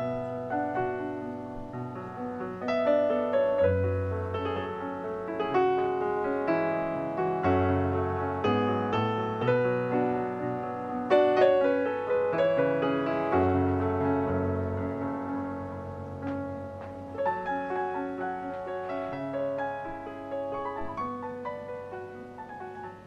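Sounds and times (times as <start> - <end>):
gentle slow piano music: 0.0 - 23.0.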